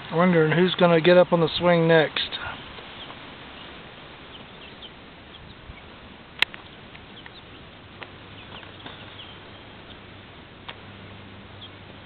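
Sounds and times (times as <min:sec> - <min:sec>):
chicks peeping: 0:00.2 - 0:10.8, 0:11.4 - 0:12.0.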